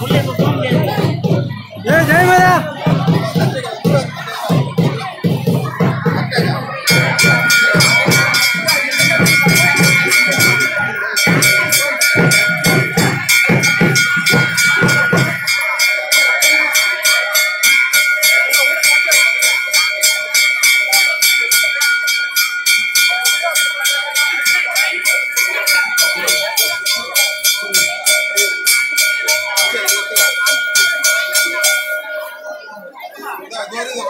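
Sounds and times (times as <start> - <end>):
temple bell rung rapidly: 0.0 - 34.0.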